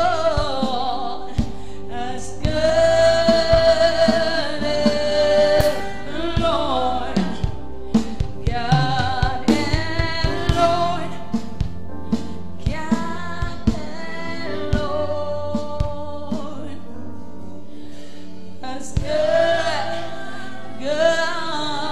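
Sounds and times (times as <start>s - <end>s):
gospel worship music: 0.0s - 21.9s.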